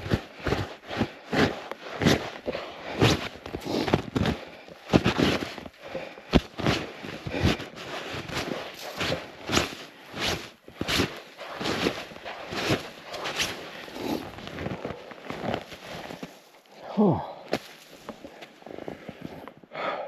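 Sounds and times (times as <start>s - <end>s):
snowshoe footsteps in snow: 0.0s - 5.7s, 6.3s - 16.7s, 17.5s - 19.6s.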